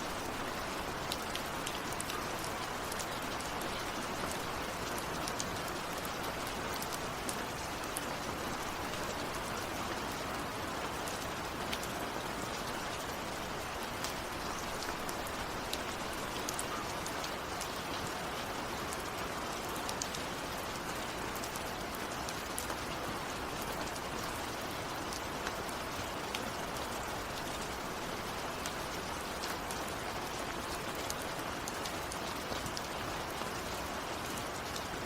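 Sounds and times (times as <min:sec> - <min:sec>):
heavy rain on a surface: 0:00.0 - 0:35.0.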